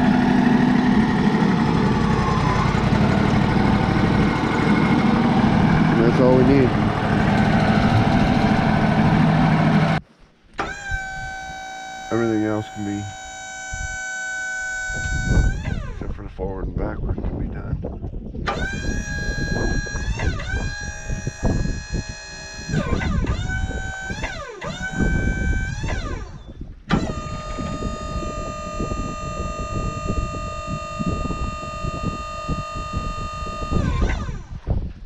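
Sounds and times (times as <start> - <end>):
saw carriage drive whine: 0.0 - 10.0, 10.6 - 16.1, 18.5 - 34.6
engine rumble: 0.0 - 35.0.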